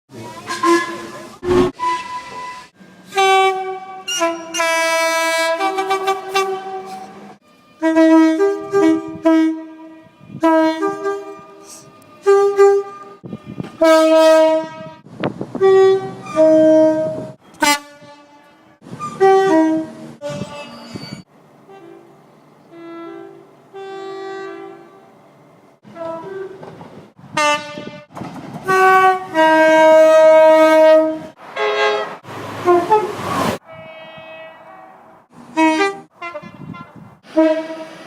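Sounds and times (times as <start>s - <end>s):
passing train rush: 0.1s - 38.0s
train horn two-tone calls: 0.4s - 7.2s, 7.8s - 15.0s, 15.6s - 22.1s, 22.7s - 25.1s, 25.8s - 26.6s, 27.4s - 38.0s.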